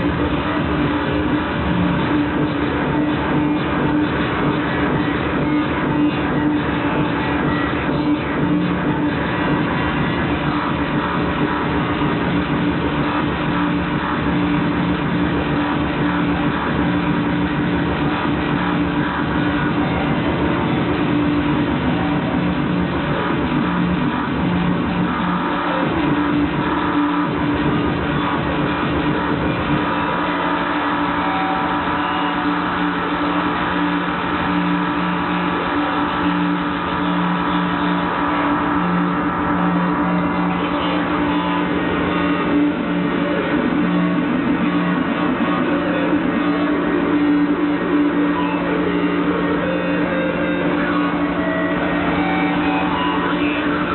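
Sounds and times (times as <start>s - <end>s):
loud industrial noise music: 0.0s - 53.9s
low droning tones: 0.0s - 53.9s.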